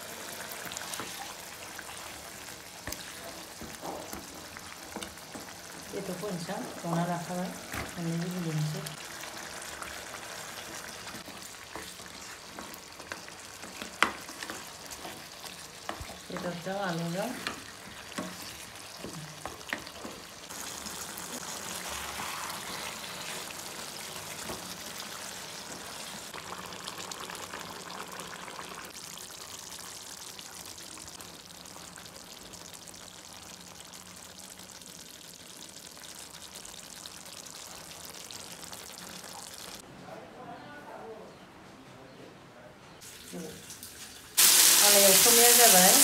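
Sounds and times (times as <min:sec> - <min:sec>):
food sizzling in a frying pan: 0:00.0 - 0:39.8, 0:43.0 - 0:46.0.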